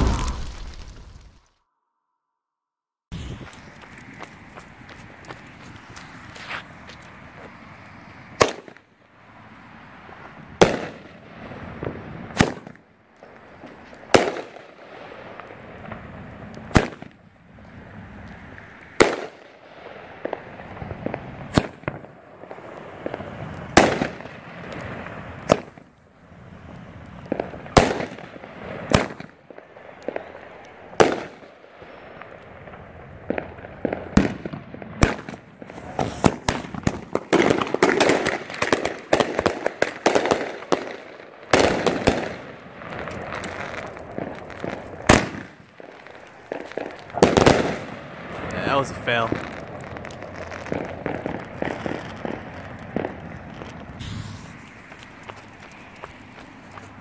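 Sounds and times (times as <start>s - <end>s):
fireworks bangs: 0.0s - 1.5s, 3.1s - 8.8s, 10.6s - 57.0s
fireworks hissing and crackling: 0.0s - 1.5s, 3.1s - 57.0s.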